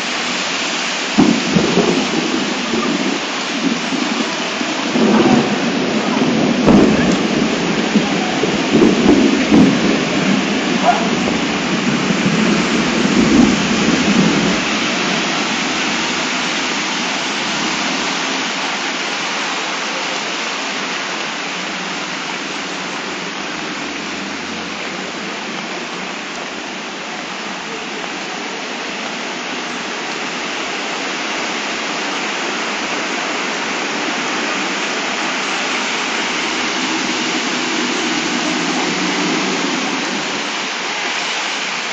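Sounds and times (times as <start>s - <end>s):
torrential rain pouring: 0.0s - 41.9s.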